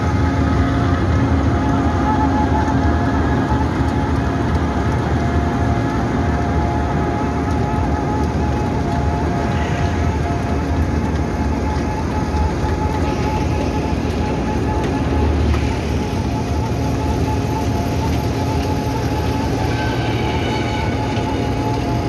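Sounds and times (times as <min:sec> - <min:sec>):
constant whine: 0:00.0 - 0:22.0
milling machine droning: 0:00.0 - 0:22.0.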